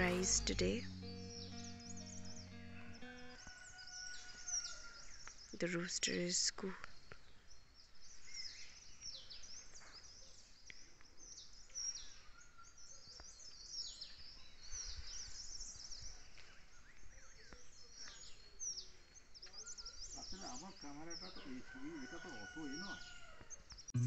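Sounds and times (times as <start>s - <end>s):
faint songbirds chirping: 0.0s - 24.0s.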